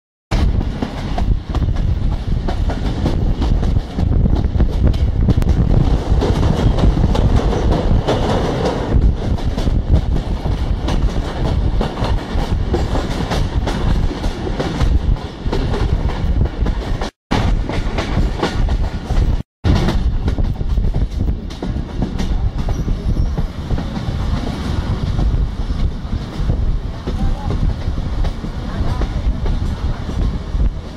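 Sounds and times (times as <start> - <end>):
train rumbling: 0.3 - 30.9.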